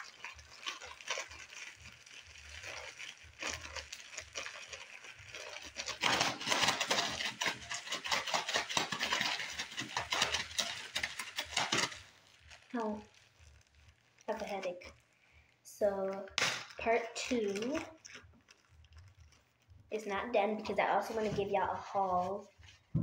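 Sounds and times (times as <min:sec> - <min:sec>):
plastic bag crinkling: 0:00.0 - 0:23.0
slime squelching: 0:00.0 - 0:23.0.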